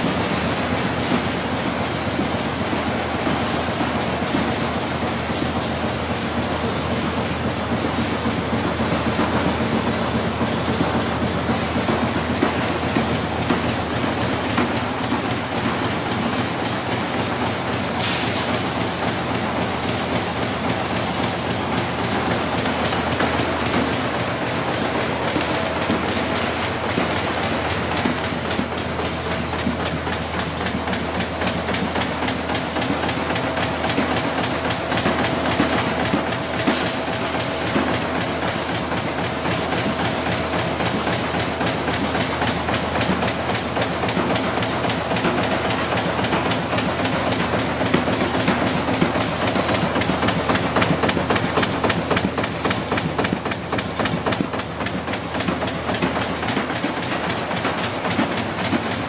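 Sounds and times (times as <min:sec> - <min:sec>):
printing machine clattering: 0:00.0 - 0:59.0.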